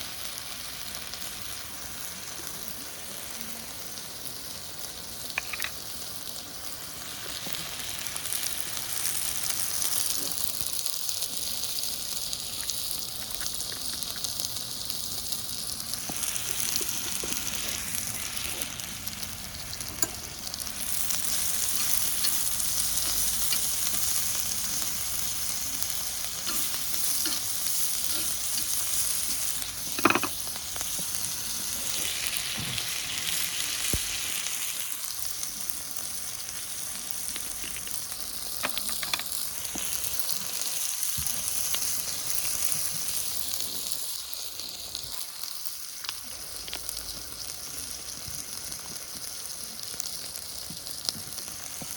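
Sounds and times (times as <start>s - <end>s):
meat sizzling in a frying pan: 0.0s - 51.9s.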